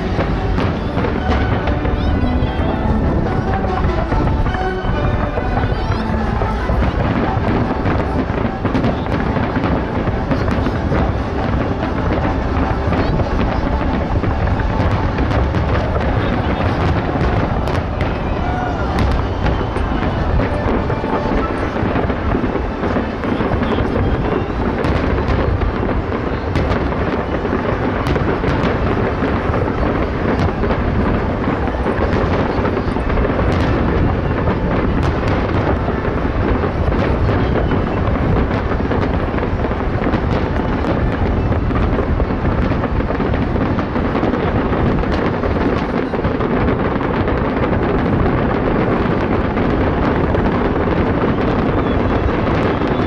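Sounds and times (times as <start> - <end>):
fireworks exploding: 0.0 - 53.0.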